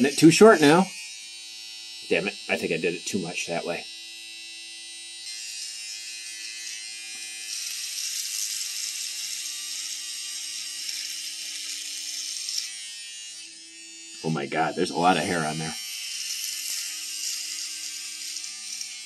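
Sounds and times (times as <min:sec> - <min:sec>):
electric beard trimmer buzzing: 0:00.0 - 0:19.0
trimmer blades rasping through hair: 0:00.0 - 0:19.0.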